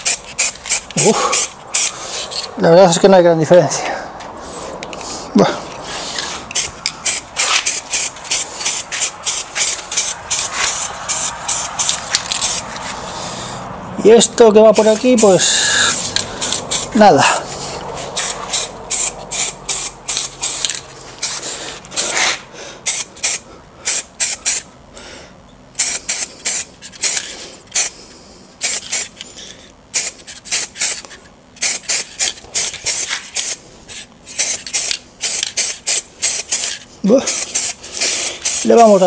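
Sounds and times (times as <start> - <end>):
spray can hissing in bursts: 0.0 - 2.3, 5.8 - 13.4, 14.7 - 24.7, 25.8 - 28.0, 28.6 - 29.2, 29.9 - 39.0.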